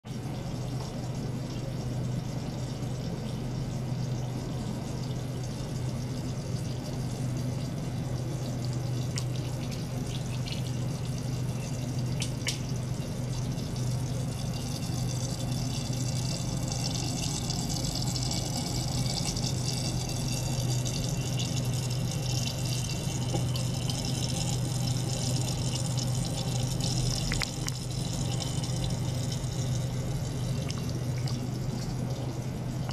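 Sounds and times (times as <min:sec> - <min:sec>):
small pump humming: 0:00.0 - 0:32.9
water trickling into a beaker: 0:00.1 - 0:32.9.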